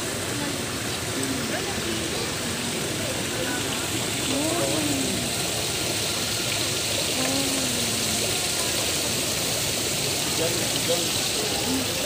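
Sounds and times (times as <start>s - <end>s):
faint voices: 0.0s - 12.0s
fountain splashing into a pond: 0.0s - 12.0s.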